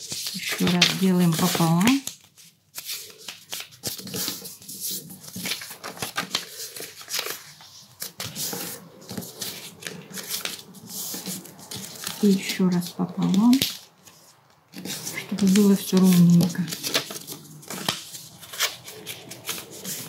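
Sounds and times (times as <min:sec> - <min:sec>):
paper folding and creasing: 0:00.0 - 0:20.0.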